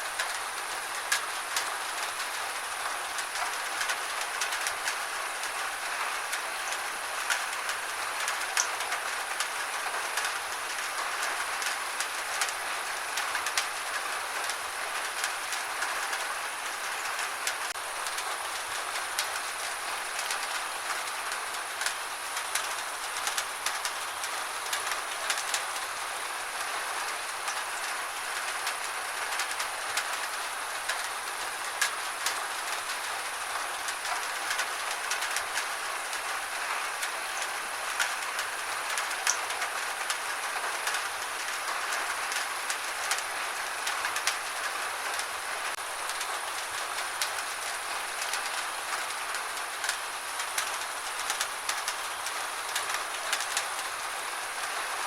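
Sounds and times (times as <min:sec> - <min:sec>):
gentle rain hiss: 0:00.0 - 0:55.0
raindrops ticking: 0:00.1 - 0:55.0.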